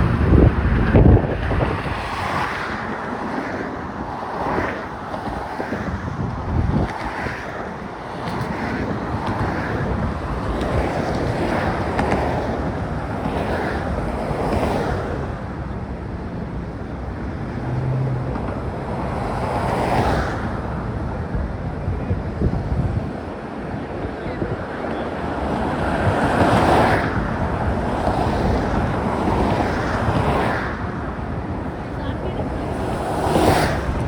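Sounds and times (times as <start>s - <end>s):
traffic noise: 0.0s - 34.0s
wind rushing over microphone: 0.0s - 34.0s.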